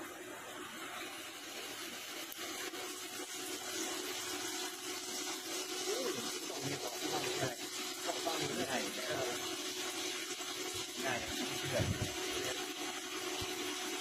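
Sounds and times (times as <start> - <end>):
coolant spraying hiss: 0.0 - 14.0.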